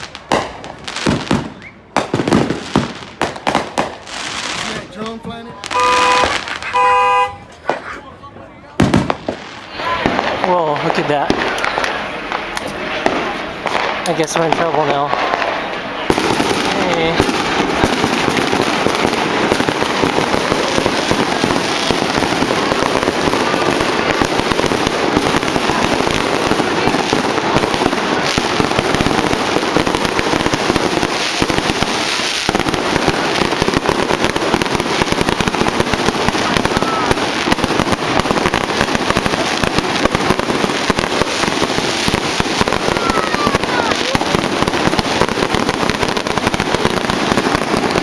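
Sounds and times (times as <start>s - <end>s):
fireworks and firecrackers exploding: 0.0s - 48.0s.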